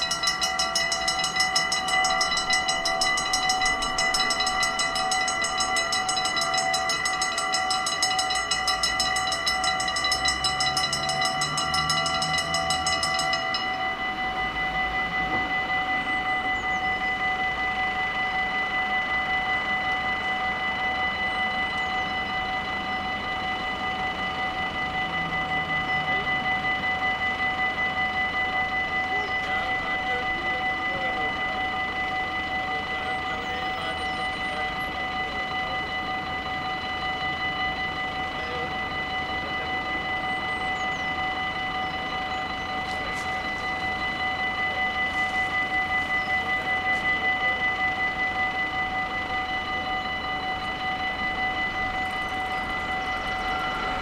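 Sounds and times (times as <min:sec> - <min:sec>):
level crossing bells ringing: 0:00.0 - 0:54.0.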